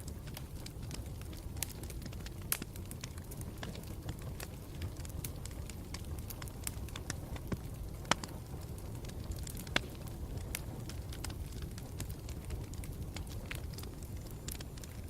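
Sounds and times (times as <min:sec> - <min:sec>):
burning wood crackling and popping: 0:00.0 - 0:15.0
campfire flames rumbling: 0:00.0 - 0:15.0.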